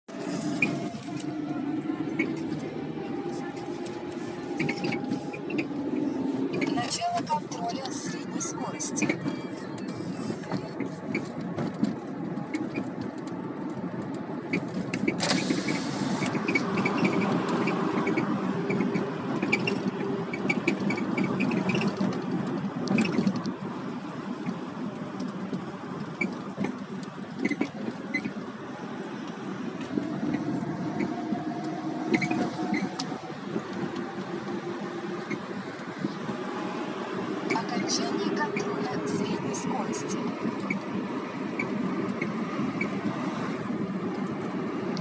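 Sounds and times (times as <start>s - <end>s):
road and engine noise: 0.0s - 45.0s
suspension squeaking: 0.1s - 45.0s.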